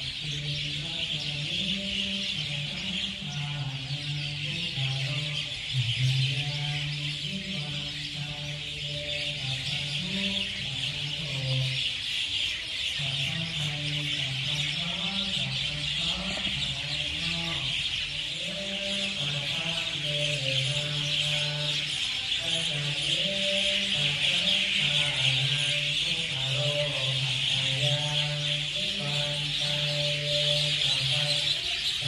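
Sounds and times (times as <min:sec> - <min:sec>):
birds chirping: 0:00.0 - 0:32.0
prayer chanting: 0:00.0 - 0:32.0.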